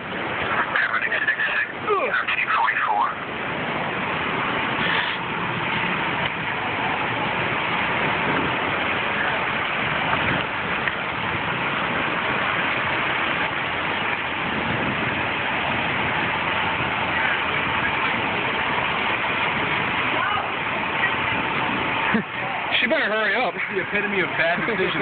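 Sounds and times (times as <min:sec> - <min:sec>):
rain and running floodwater: 0:00.0 - 0:25.0.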